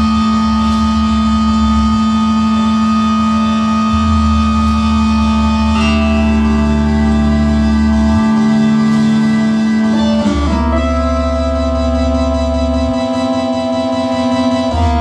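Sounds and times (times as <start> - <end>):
layered electronic drone tones: 0.0 - 15.0
low buzzing bass: 0.0 - 15.0.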